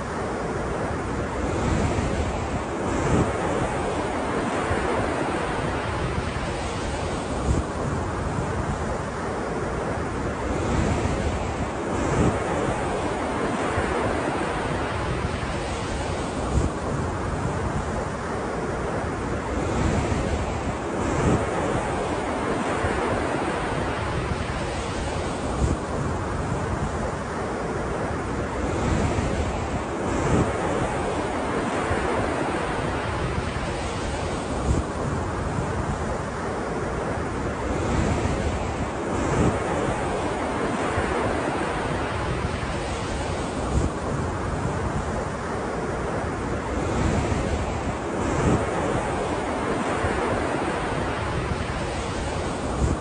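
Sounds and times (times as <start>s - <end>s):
ocean surf washing onto shore: 0.0s - 53.0s
wind buffeting microphone: 0.0s - 53.0s.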